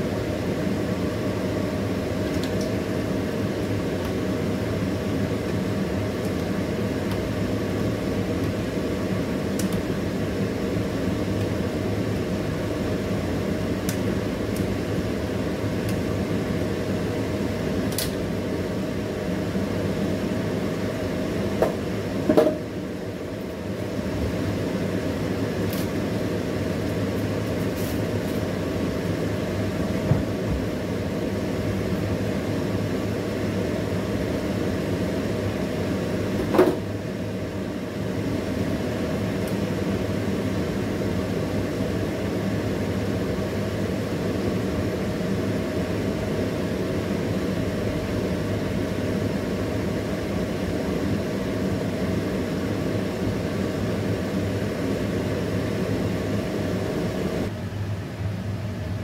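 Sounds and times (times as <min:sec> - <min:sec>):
mechanical fan hum: 0:00.0 - 0:59.0.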